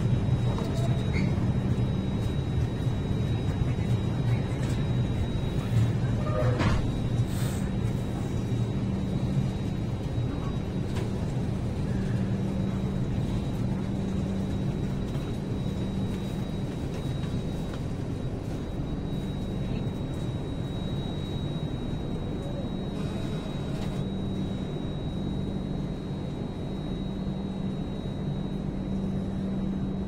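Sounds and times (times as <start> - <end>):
train rumble and hum: 0.0 - 30.0.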